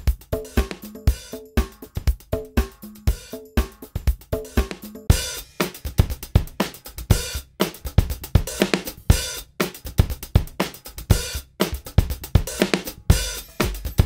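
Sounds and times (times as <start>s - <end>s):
drum-kit beat music: 0.0s - 14.0s.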